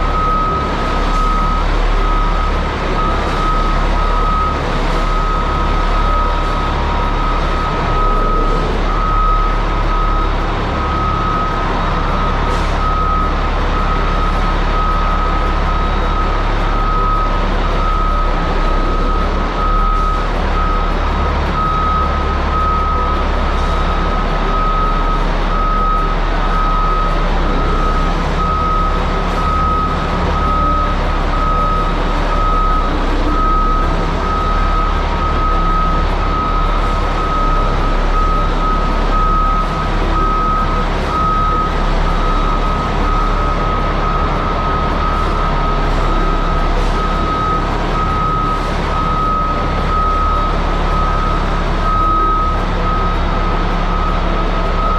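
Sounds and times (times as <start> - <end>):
back-up alarm beeping: 0.0 - 54.9
diesel engine running: 0.0 - 54.9.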